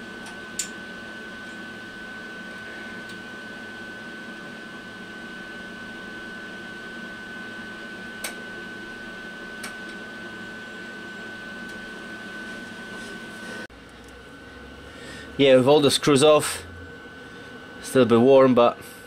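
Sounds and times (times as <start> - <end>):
high whine: 0.0 - 19.0
steady mechanical hum: 0.0 - 19.0.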